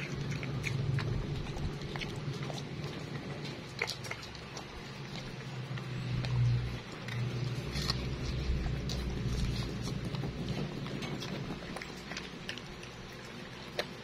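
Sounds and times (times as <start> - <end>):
dog eating from metal bowl: 0.0 - 14.0
low steady hum: 0.0 - 14.0.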